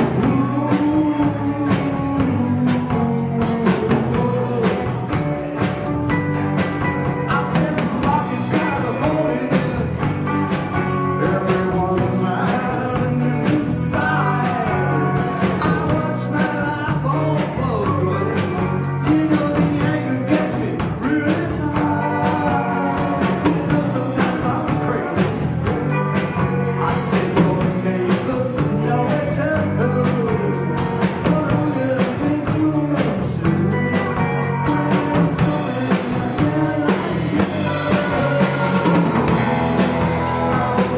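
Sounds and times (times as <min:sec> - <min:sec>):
bass guitar: 0:00.0 - 0:40.9
drum kit beat: 0:00.0 - 0:40.9
electric guitar: 0:00.0 - 0:40.9
person singing: 0:00.0 - 0:40.9.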